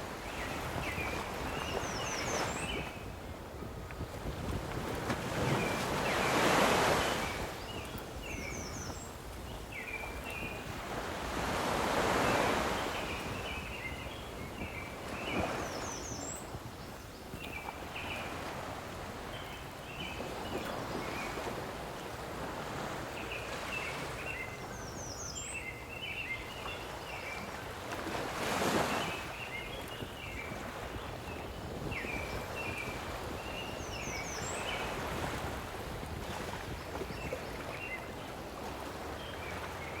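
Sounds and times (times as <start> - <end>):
songbird singing: 0.0 - 4.0, 5.4 - 35.5, 36.2 - 40.0
lake waves washing on shore: 0.0 - 40.0
wind: 0.0 - 40.0.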